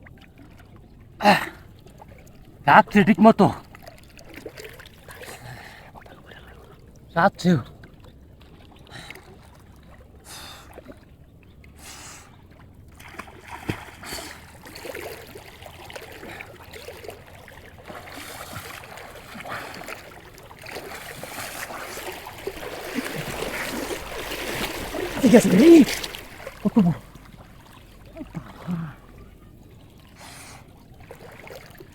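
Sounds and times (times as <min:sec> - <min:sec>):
stream water running and splashing: 0:00.0 - 0:31.9.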